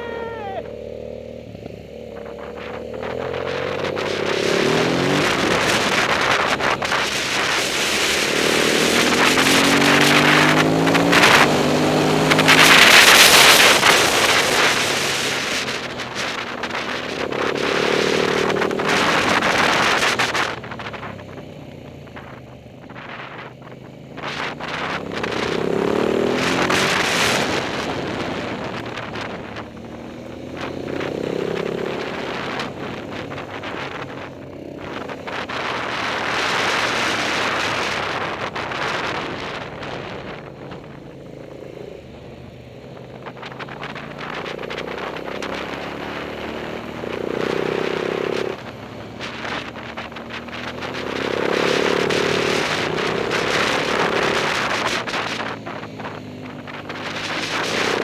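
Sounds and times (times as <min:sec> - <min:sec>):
motorcycle engine revving: 0:00.0 - 0:58.0
wind noise on microphone: 0:02.1 - 0:58.0.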